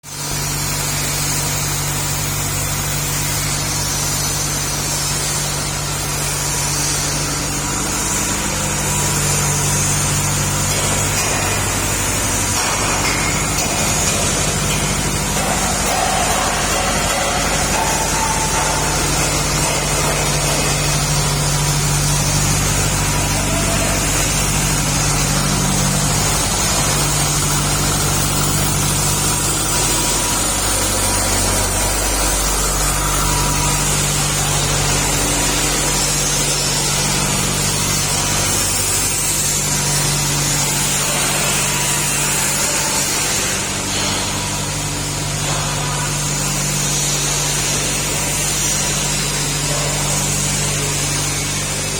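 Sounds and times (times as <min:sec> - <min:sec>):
milling machine droning: 0:00.0 - 0:51.9.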